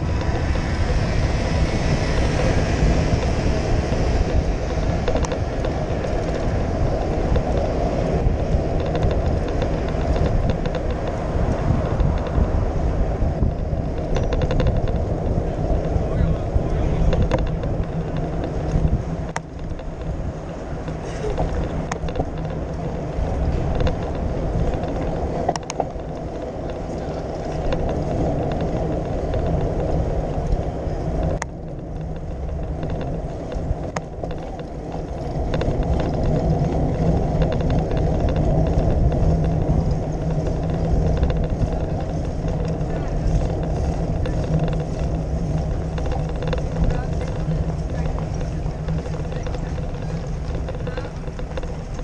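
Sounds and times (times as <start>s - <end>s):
bicycle rattling clicks: 0.0s - 52.0s
street traffic passing: 0.0s - 52.0s
tyres on pavement: 0.0s - 52.0s
wind on microphone: 0.0s - 52.0s.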